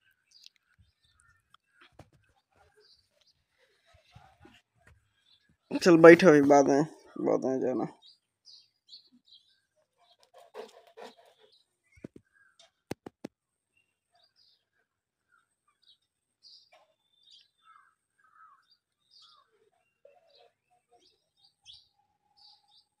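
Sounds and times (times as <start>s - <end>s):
birds chirping faintly: 0.0s - 23.0s.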